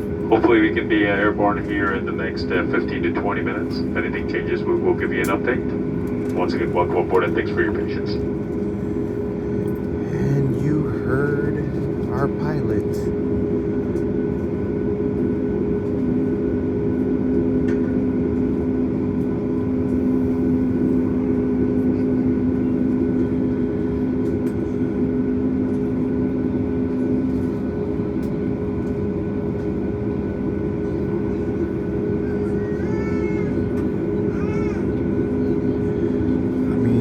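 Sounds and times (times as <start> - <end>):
airplane cabin drone: 0.0 - 37.0.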